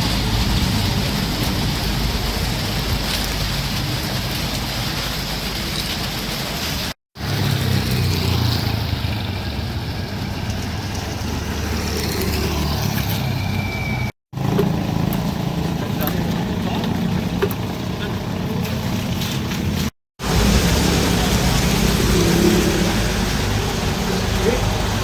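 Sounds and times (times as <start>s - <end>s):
road traffic rumbling past: 0.0s - 25.0s.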